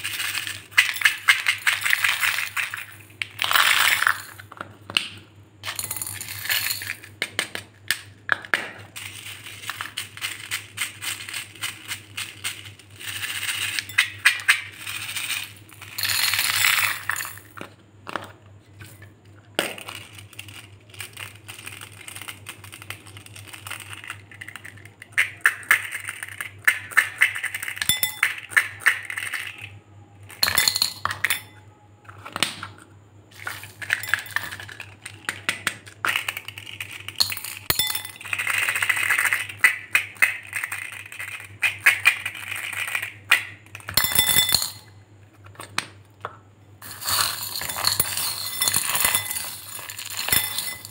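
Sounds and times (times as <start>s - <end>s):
marbles clinking in cups: 0.0s - 4.7s, 5.6s - 45.6s, 46.8s - 50.9s.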